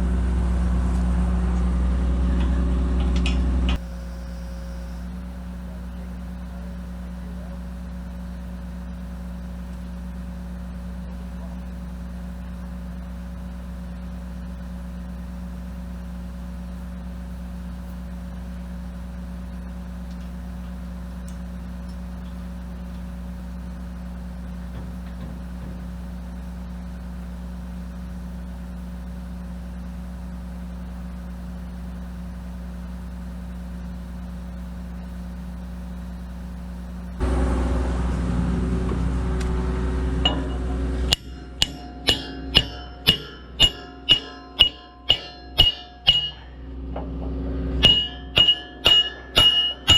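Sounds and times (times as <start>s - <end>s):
diesel engine idling: 0.0s - 49.9s
louder engine: 0.0s - 49.9s.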